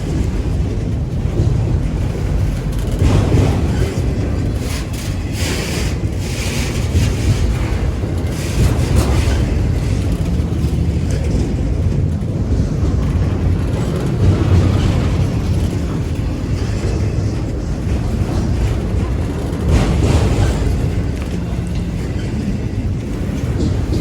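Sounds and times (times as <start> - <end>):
train wheels rumbling on rails: 0.0 - 24.0
wind buffeting microphone: 0.0 - 24.0.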